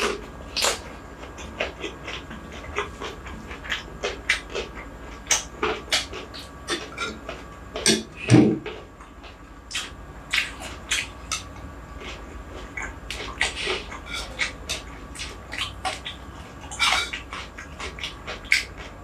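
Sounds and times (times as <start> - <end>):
chewing with wet mouth clicks: 0.0 - 19.0.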